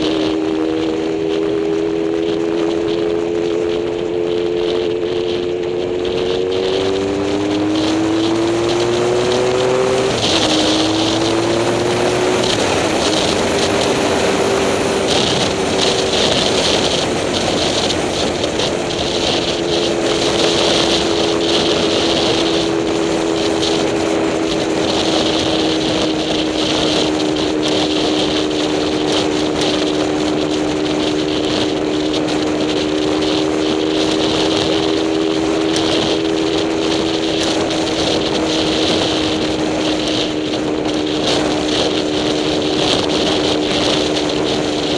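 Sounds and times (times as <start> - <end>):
road noise rushing: 0.0 - 44.9
vehicle engine hum: 0.0 - 44.9.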